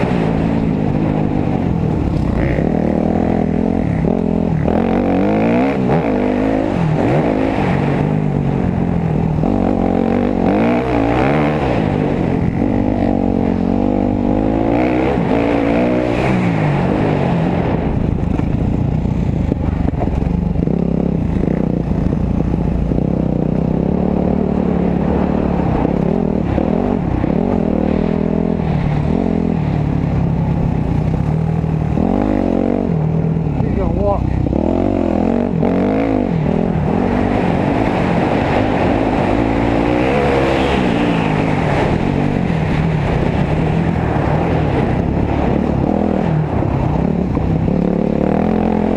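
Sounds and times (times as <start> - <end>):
dirt bike engine revving: 0.0 - 18.0, 19.4 - 48.9.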